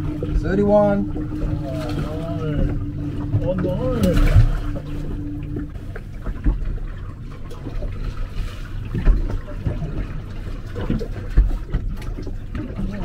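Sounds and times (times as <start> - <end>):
boat low rumble: 0.0 - 13.0
water noise: 0.0 - 13.0.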